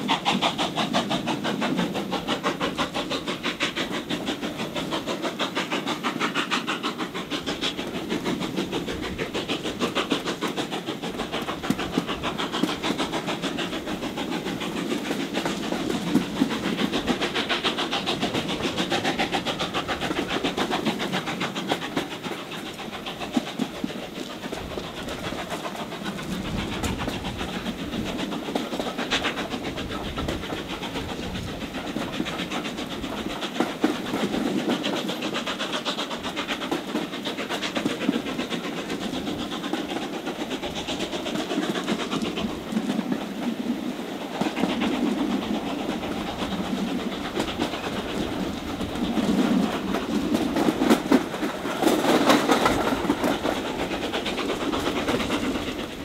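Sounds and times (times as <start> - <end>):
coach wheels rattling on rails: 0.0 - 56.0
steam locomotive exhaust beating: 0.0 - 56.0.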